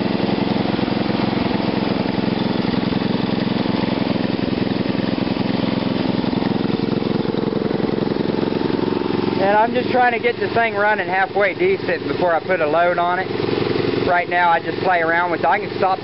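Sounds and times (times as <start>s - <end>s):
small engine running steadily: 0.0s - 16.0s.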